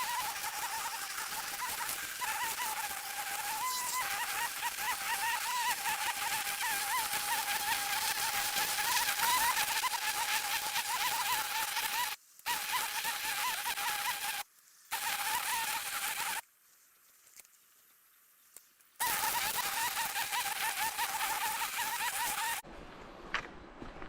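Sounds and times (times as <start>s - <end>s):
brush cutter whining: 0.0s - 16.4s, 19.0s - 22.6s.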